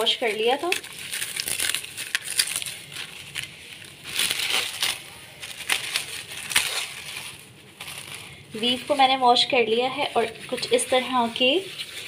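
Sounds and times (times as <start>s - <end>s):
cling film crinkling: 0.0s - 12.0s.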